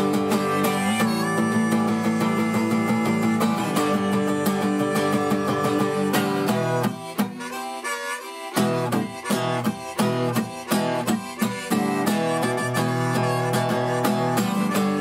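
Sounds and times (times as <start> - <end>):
acoustic guitar: 0.0 - 15.0
harmonica melody: 0.0 - 15.0.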